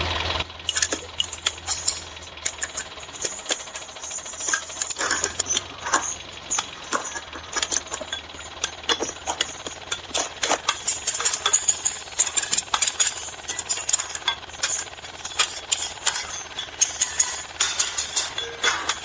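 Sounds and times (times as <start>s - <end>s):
mini tractor engine hum: 0.0s - 19.0s
clicking and rattling: 0.4s - 19.0s.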